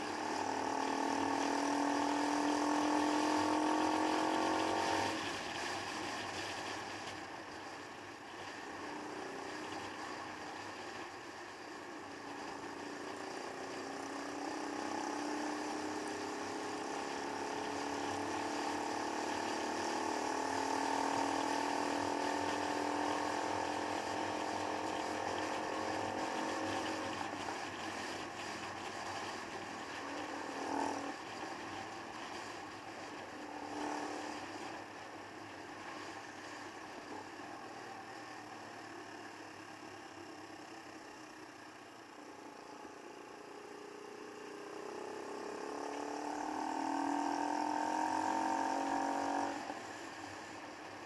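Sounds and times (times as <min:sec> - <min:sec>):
motorcycle engine running: 0:00.0 - 0:07.8, 0:08.6 - 0:51.0.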